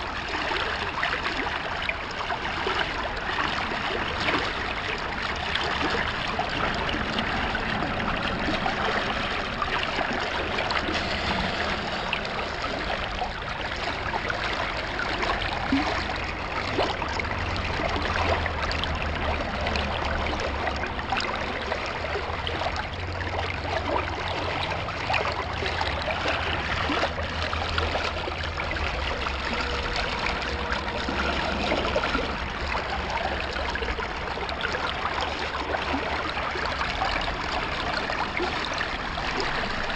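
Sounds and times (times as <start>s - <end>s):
creek water trickling: 0.0s - 39.9s
low rumble: 1.6s - 39.9s.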